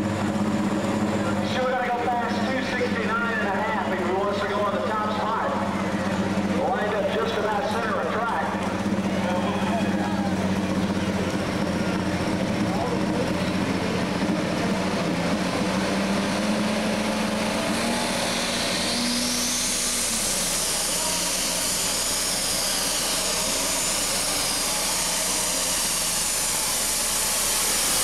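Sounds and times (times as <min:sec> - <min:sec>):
tractor engine at full throttle: 0:00.0 - 0:28.0
turbo whine: 0:00.0 - 0:28.0.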